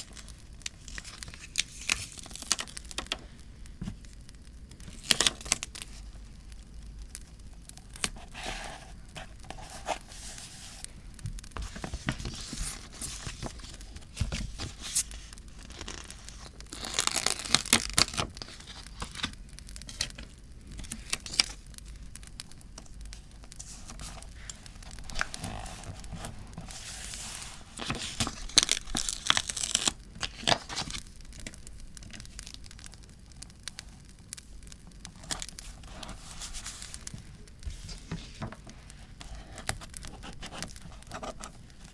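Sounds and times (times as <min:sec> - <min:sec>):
paper rustling: 0:00.0 - 0:04.1, 0:07.8 - 0:21.6, 0:22.8 - 0:32.4, 0:35.1 - 0:41.9.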